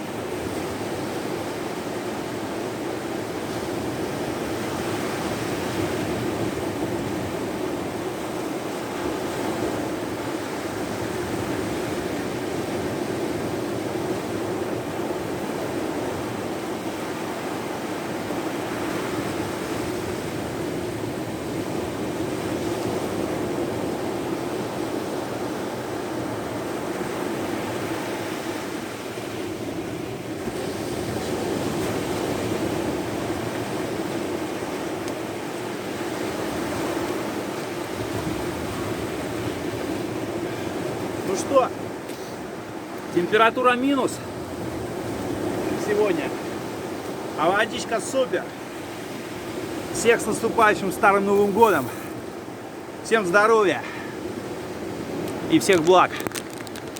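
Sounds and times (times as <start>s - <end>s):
sea surf: 0.0s - 56.9s.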